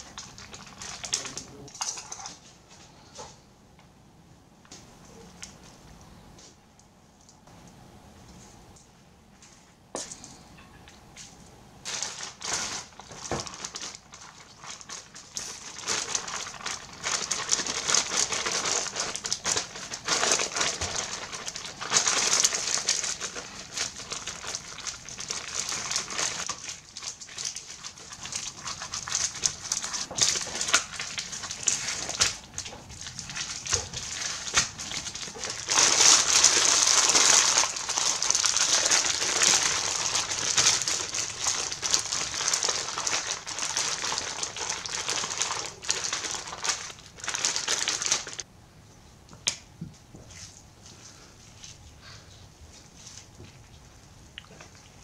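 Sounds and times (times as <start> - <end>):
crinkling handling noise: 0.0 - 3.8, 4.6 - 49.1, 49.8 - 55.0.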